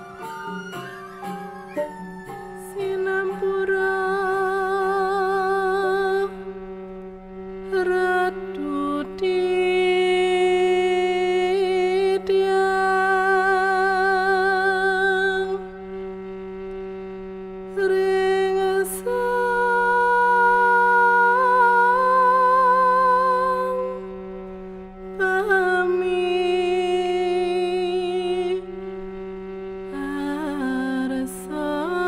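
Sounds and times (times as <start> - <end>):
slow solemn melody with vibrato: 0.0 - 32.0.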